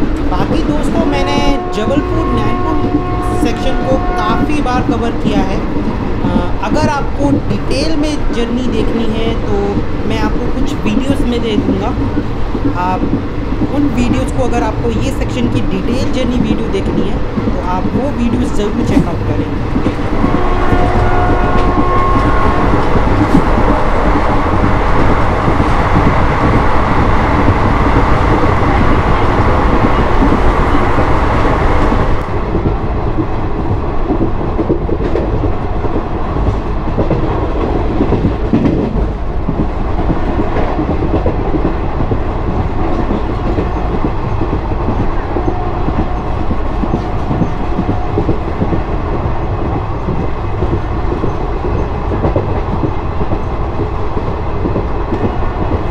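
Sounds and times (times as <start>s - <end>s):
train wheels rolling on track: 0.0s - 55.9s.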